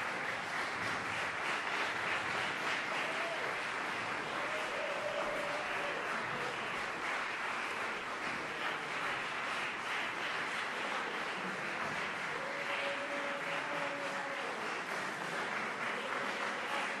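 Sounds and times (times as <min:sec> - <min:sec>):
audience applause: 0:00.0 - 0:17.0.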